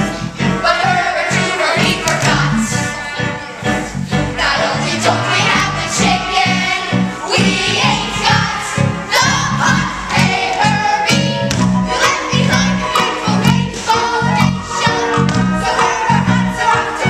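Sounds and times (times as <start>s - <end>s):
group singing a show tune: 0.0s - 17.0s
live musical accompaniment: 0.0s - 17.0s.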